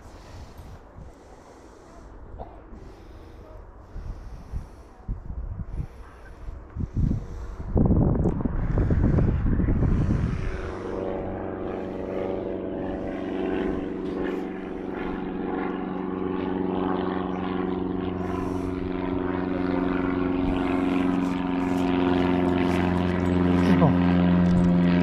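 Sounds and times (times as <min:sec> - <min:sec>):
engine drone: 0:00.0 - 0:25.0
wind buffeting microphone: 0:02.2 - 0:25.0.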